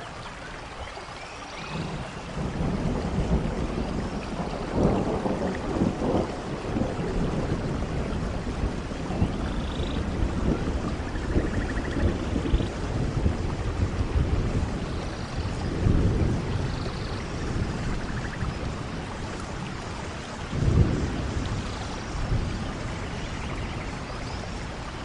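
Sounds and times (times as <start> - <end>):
steady rain falling: 0.0 - 25.0
thunder rumbling: 1.7 - 25.0.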